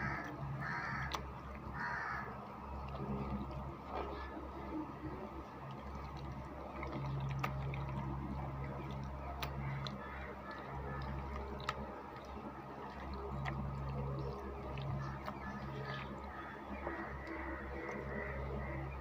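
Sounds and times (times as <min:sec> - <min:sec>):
steady low hum: 0:00.0 - 0:19.0
wet squelching of hand kneading: 0:00.0 - 0:19.0.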